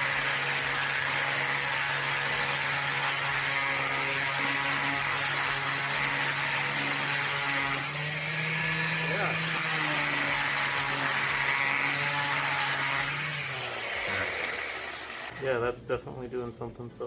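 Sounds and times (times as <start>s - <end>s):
power sander running: 0.0s - 15.3s.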